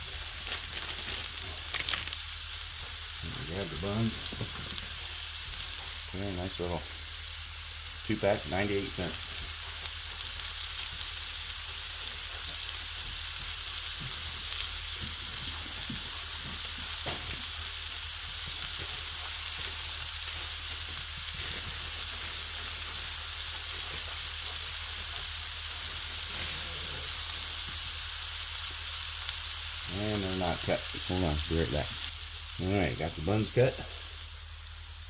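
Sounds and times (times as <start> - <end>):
meat and vegetables sizzling on griddle: 0.0 - 35.0.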